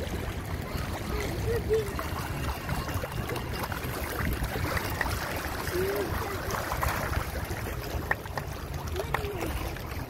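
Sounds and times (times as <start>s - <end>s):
fish splashing: 0.0s - 10.0s
water lapping against rocks: 0.0s - 10.0s.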